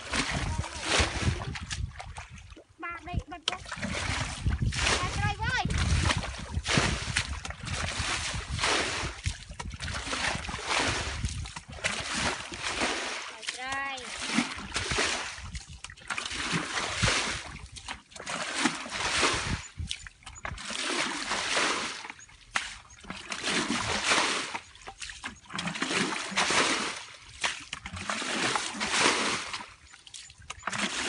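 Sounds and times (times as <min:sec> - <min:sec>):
water dripping and trickling: 0:00.0 - 0:31.0
water splashing: 0:00.0 - 0:31.0.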